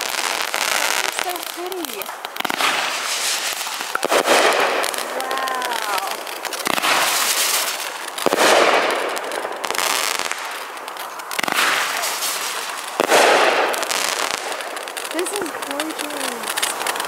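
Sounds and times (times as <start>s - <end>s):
fireworks fizzle: 0.0s - 17.0s
fireworks sharp reports: 0.0s - 17.0s.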